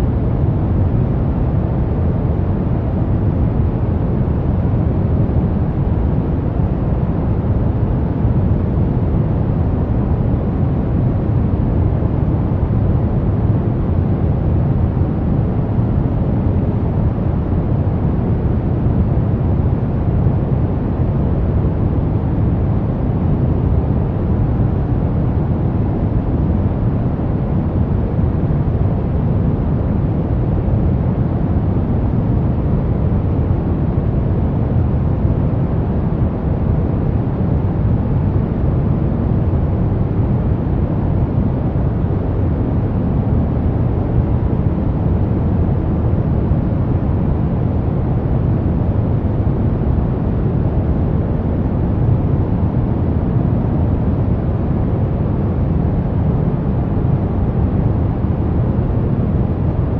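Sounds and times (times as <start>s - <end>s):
deep rumbling brown noise: 0.0s - 59.9s.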